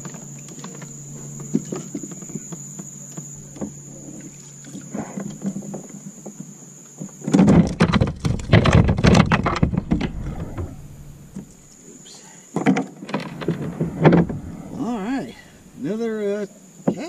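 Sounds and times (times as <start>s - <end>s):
knocks and rattles on plastic kayak: 0.0s - 11.7s, 12.6s - 15.8s, 16.8s - 17.0s
insects droning: 0.0s - 17.0s.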